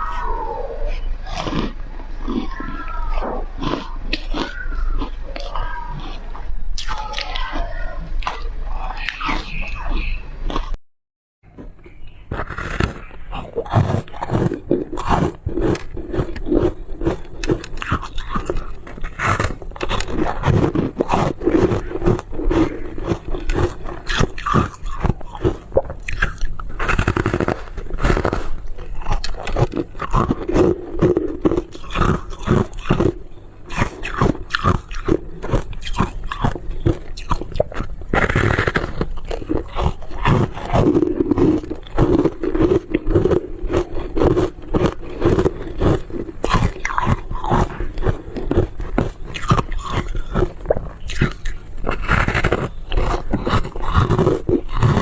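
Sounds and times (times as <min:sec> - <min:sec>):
crunchy ice being chewed: 0:00.0 - 0:10.8, 0:11.6 - 0:55.0.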